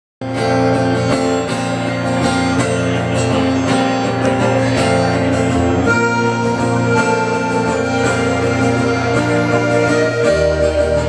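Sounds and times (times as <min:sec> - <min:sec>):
guitar chords strummed: 0:00.2 - 0:11.0.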